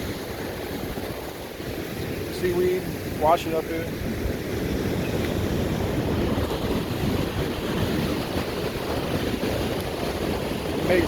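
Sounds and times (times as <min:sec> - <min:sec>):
waves breaking on beach: 0:00.0 - 0:11.0
wind buffeting microphone: 0:00.0 - 0:11.0.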